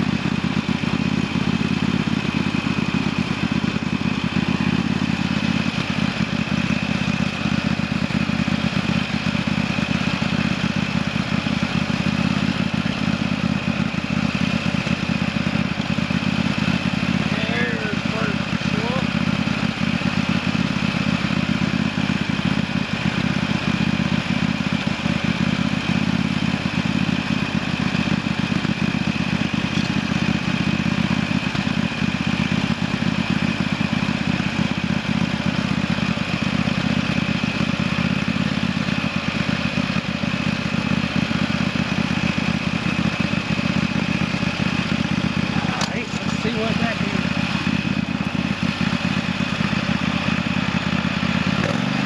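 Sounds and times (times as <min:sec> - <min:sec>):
small engine running steadily: 0:00.0 - 0:52.0.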